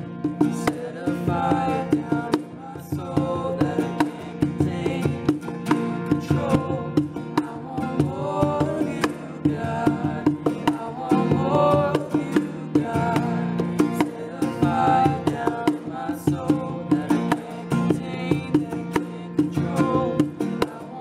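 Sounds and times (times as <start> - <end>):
hand-drummed cajon beat: 0.0 - 21.0
man singing: 0.0 - 21.0
strummed acoustic guitar: 0.0 - 21.0.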